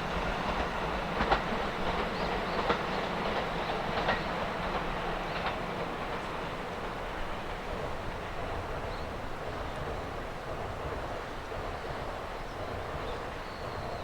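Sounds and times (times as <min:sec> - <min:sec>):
freight train rolling past: 0:00.0 - 0:14.0.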